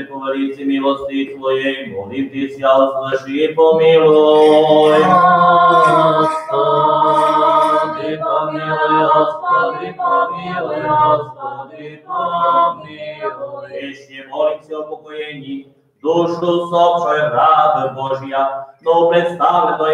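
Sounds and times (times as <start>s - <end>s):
unaccompanied liturgical chant: 0.0s - 19.9s.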